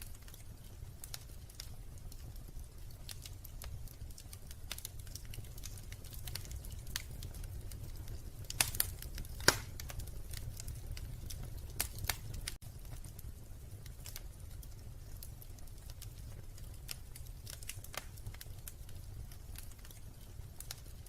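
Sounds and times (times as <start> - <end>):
fire popping and snapping: 0.0 - 21.0
low rumble of fire: 0.0 - 21.0.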